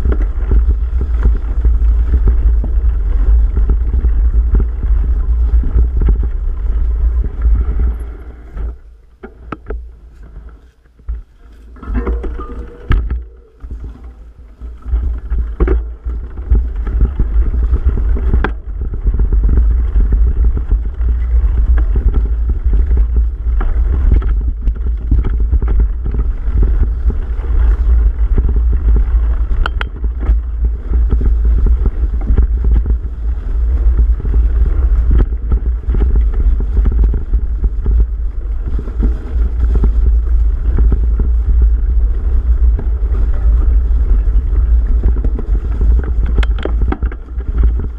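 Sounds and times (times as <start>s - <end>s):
bike rattling and knocking: 0.0s - 47.9s
wind buffeting microphone: 0.0s - 47.9s.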